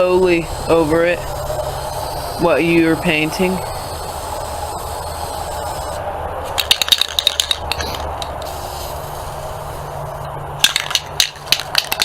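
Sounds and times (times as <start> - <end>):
spray can ball rattling: 0.0 - 9.8, 10.6 - 12.0.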